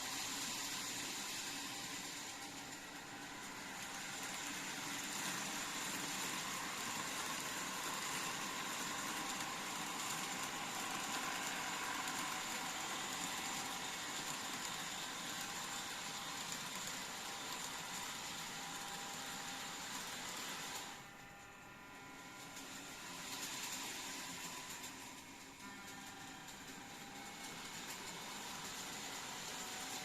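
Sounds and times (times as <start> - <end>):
model train motor whirring: 0.0 - 30.0.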